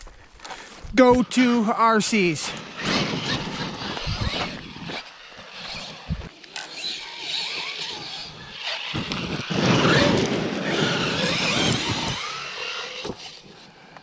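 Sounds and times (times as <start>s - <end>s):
tyres scrabbling on dirt: 2.3s - 13.7s
electric motor whining: 2.5s - 13.7s.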